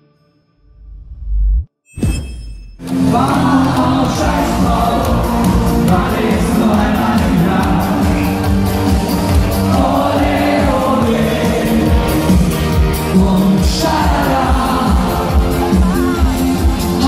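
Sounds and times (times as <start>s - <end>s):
live dance band playing: 3.0s - 17.0s.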